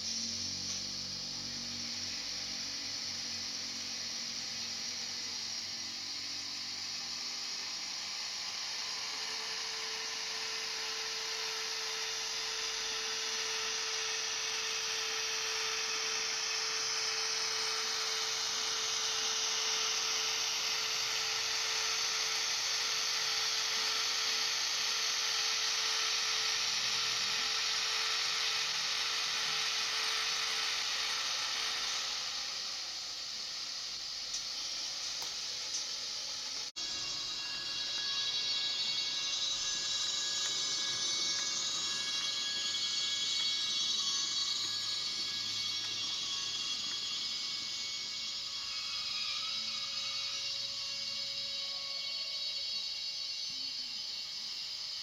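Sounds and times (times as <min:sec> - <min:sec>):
faint falling whine: 0:00.0 - 0:55.0.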